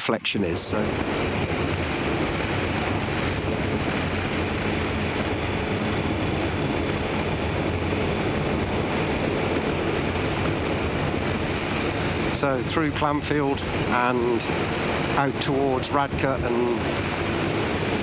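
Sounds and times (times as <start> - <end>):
wind and road noise: 0.0 - 18.0
motorcycle engine running: 0.6 - 18.0.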